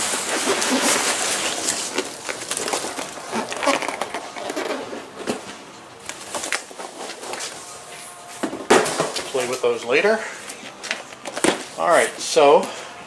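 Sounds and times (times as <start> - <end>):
cardboard and packing rustling: 0.0 - 9.7, 10.4 - 12.4.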